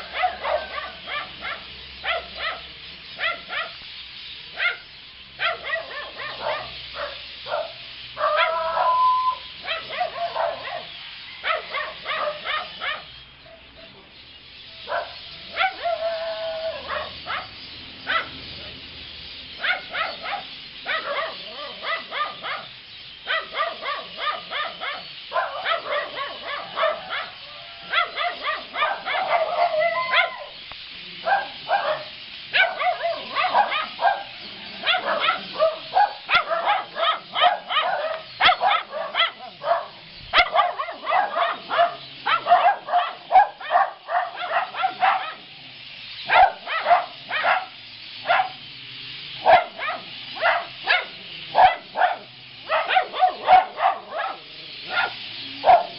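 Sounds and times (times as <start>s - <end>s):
dogs barking: 0.0s - 55.9s
flock of birds calling: 0.0s - 55.9s.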